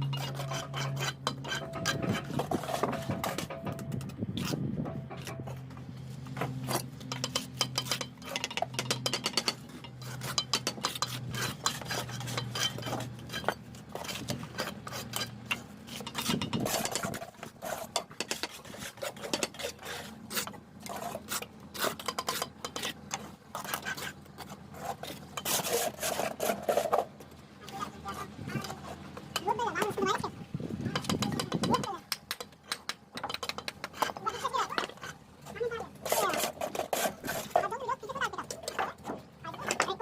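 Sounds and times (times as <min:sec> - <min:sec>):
trowel scraping bricks and mortar: 0:00.0 - 0:40.0.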